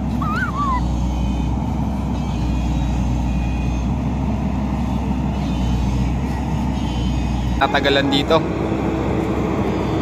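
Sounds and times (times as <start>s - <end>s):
excavator diesel engine rumble: 0.0s - 10.0s.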